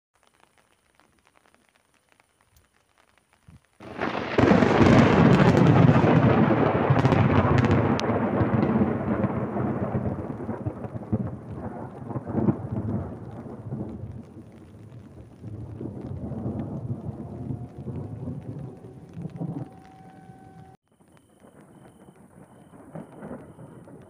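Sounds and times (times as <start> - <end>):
thunder crack and rumble: 3.8 - 24.0.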